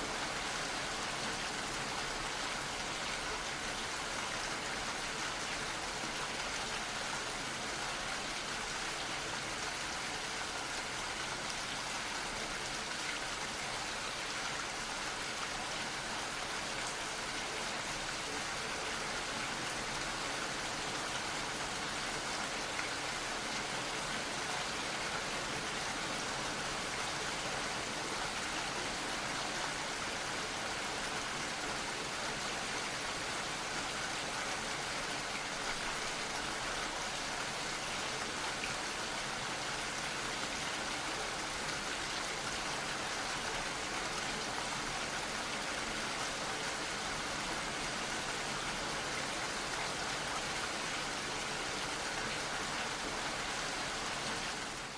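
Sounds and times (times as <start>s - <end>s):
gentle rain pattering: 0.0s - 54.9s.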